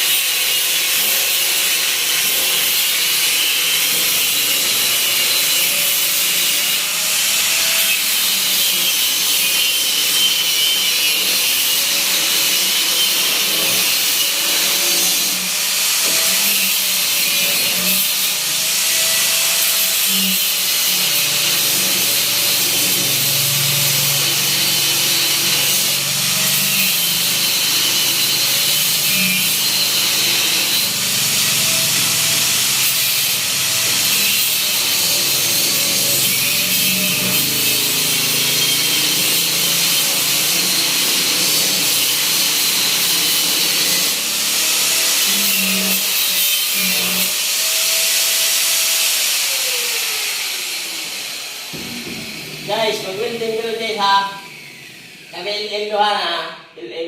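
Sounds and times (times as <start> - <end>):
power tool running under load: 0.0 - 55.9.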